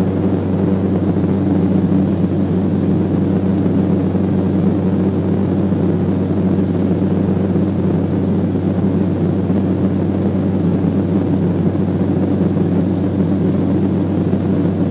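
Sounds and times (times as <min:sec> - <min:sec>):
turboprop engines droning: 0:00.0 - 0:14.9.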